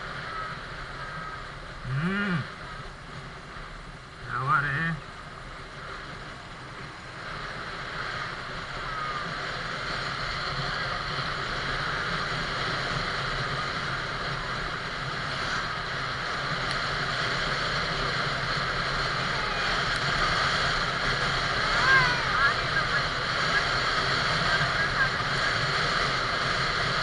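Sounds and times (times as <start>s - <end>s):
low engine hum: 0.0s - 27.0s
wind and road noise: 0.0s - 27.0s.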